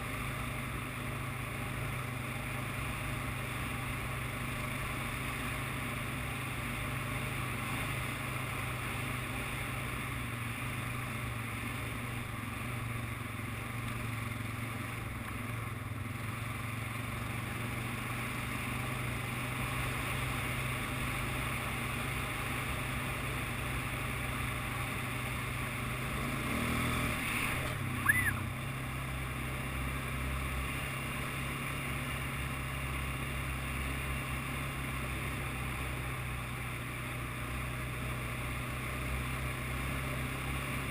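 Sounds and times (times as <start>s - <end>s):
atv engine droning: 0.0s - 40.9s.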